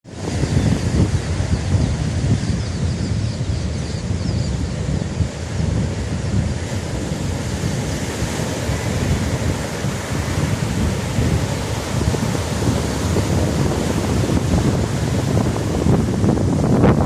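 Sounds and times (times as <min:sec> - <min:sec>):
sea surf washing ashore: 0:00.0 - 0:17.0
wind buffeting microphone: 0:00.0 - 0:17.0.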